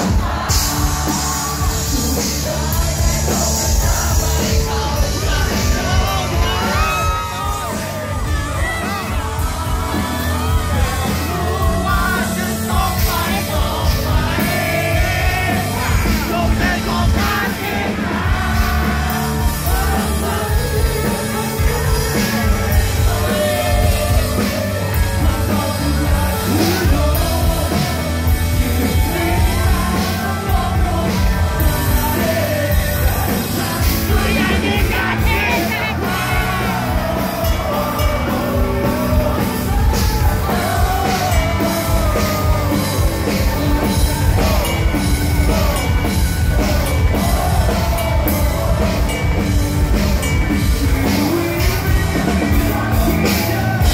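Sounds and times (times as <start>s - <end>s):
bass guitar: 0.0s - 53.9s
drums: 0.0s - 53.9s
electric guitars: 0.0s - 53.9s
man singing into microphone: 0.0s - 53.9s.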